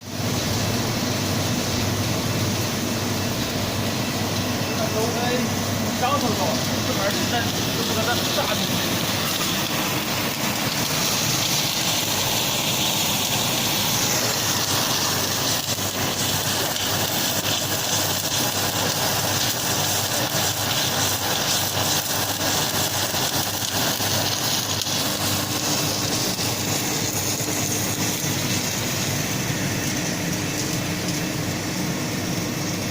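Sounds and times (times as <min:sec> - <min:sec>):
crackling welding hiss: 0:00.0 - 0:32.9.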